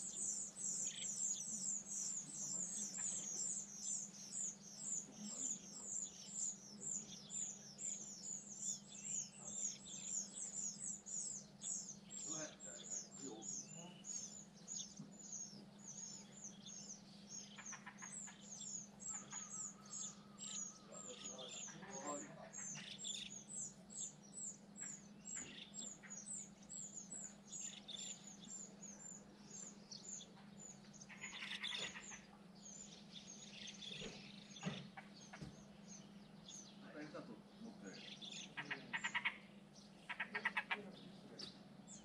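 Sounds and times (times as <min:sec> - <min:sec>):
small birds chirping: 0:00.0 - 0:42.0
steady low hum: 0:00.0 - 0:42.0.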